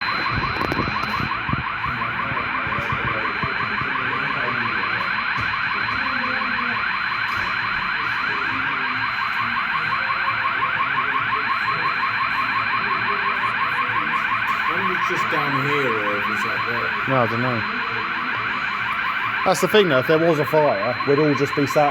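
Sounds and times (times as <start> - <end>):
fire alarm rising sweep tone: 0.0 - 21.9
steady high alarm tone: 0.0 - 21.9.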